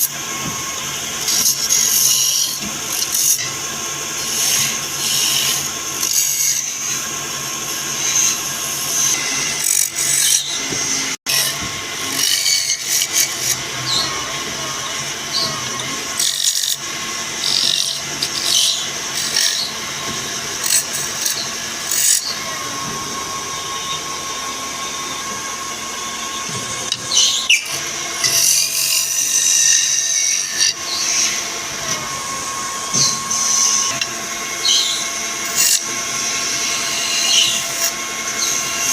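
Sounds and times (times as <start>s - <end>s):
tool scraping wood: 0.0s - 38.9s
woodworking machine humming: 0.0s - 38.9s.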